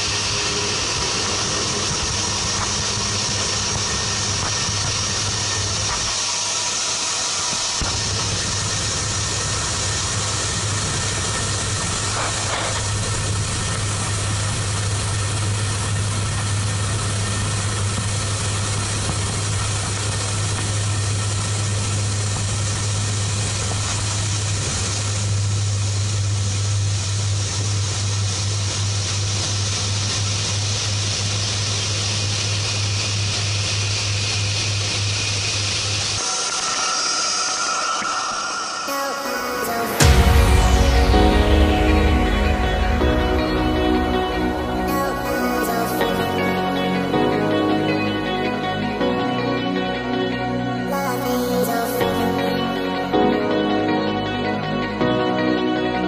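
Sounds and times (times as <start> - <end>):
engine hiss: 0.0 - 49.3
propeller drone: 0.0 - 51.7
low hum: 0.0 - 56.0.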